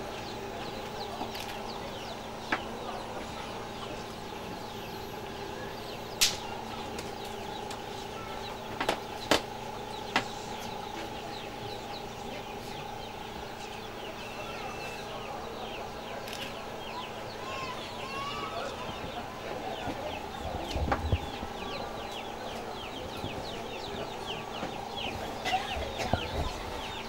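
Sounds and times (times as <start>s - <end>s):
birds chirping: 0.0s - 27.0s
steady hum: 0.0s - 27.0s.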